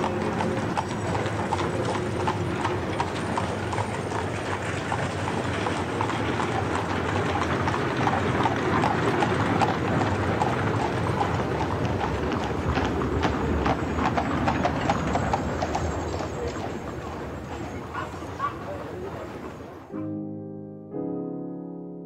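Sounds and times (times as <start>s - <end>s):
carriage wheels rumbling: 0.0s - 19.8s
horse hooves clip-clopping: 0.0s - 19.8s.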